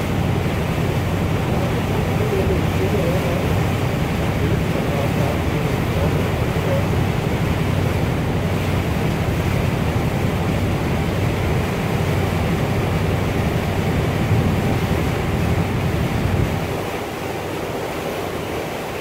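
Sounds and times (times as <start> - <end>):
rushing water: 0.0 - 19.0
ship engine rumble: 0.0 - 19.0
wind: 0.0 - 19.0.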